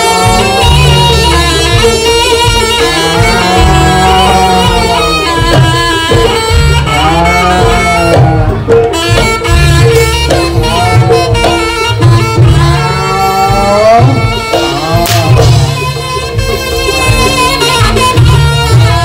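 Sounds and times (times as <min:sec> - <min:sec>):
drums: 0:00.0 - 0:19.0
gongs: 0:00.0 - 0:19.0
reed shawm melody: 0:00.0 - 0:19.0.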